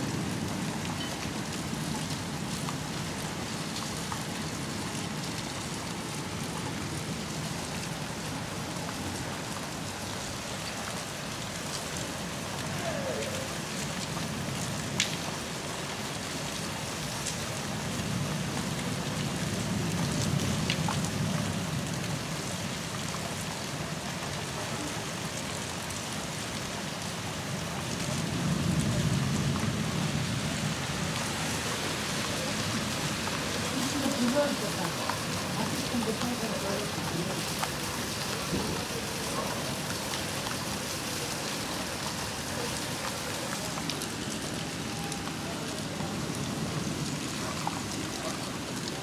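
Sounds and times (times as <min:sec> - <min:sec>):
rain on wet pavement: 0:00.0 - 0:49.0.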